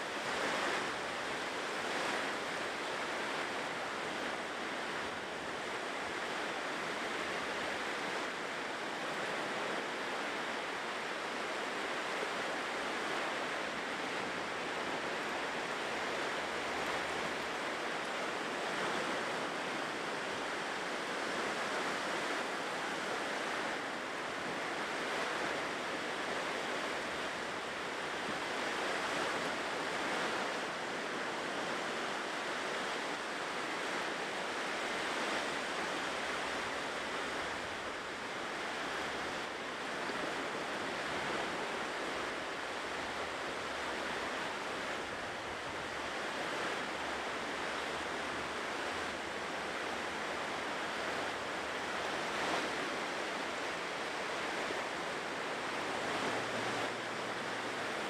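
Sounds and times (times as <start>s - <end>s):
ocean surf breaking on shore: 0.0s - 58.0s.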